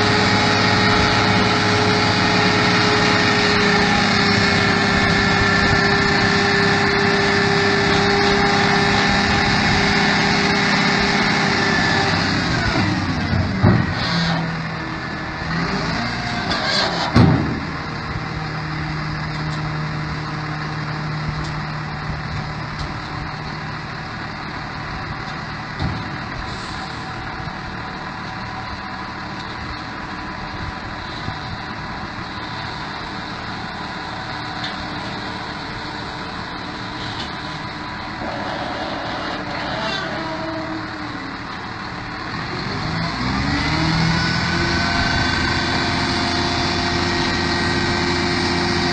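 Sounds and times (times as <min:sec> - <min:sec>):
heavy machinery engine running: 0:00.0 - 0:48.9.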